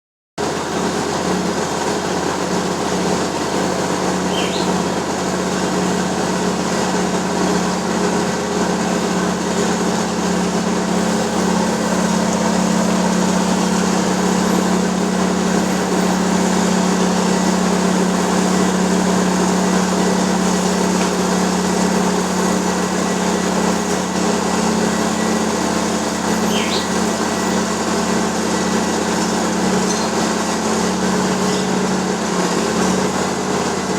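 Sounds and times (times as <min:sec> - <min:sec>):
milling machine grinding asphalt: 0:00.4 - 0:33.9.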